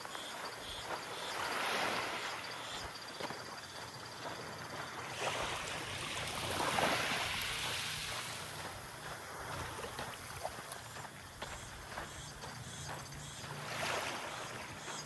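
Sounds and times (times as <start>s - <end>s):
small waves washing on beach: 0.0s - 15.0s.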